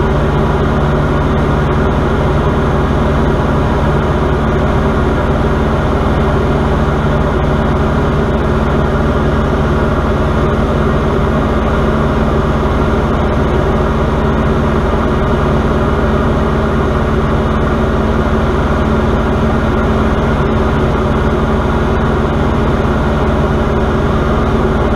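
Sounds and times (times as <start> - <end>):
propeller airplane engine drone: 0.0 - 24.9.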